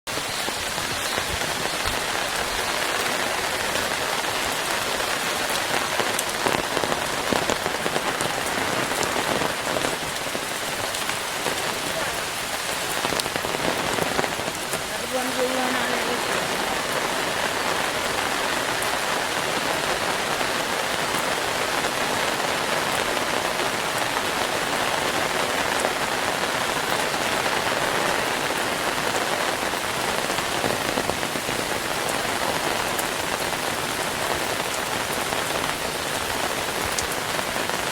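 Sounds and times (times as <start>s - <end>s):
rain falling: 0.0s - 37.9s.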